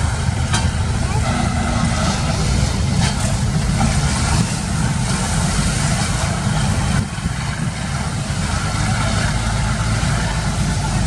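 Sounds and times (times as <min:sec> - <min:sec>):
boat engine running: 0:00.0 - 0:11.0
rough sea noise: 0:00.0 - 0:11.0.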